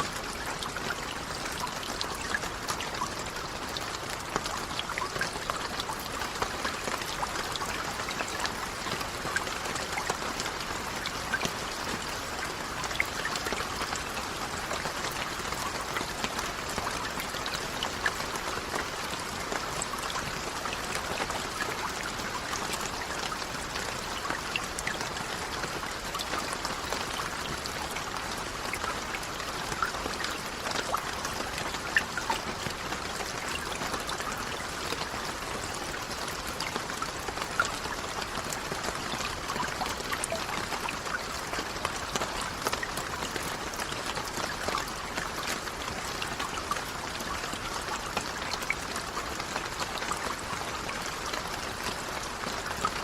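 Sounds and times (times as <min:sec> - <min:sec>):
raindrops ticking: 0:00.0 - 0:53.0.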